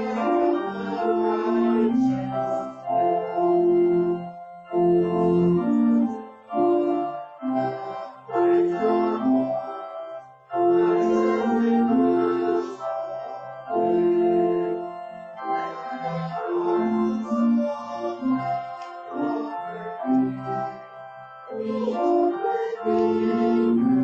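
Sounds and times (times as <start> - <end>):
church organ playing hymn chords: 0.0 - 24.0.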